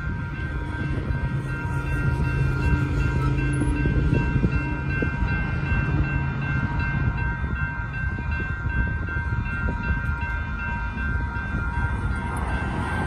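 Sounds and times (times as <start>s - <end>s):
railroad crossing bell ringing: 0.0s - 13.0s
road traffic passing: 0.0s - 13.0s
train rumbling: 0.0s - 13.0s.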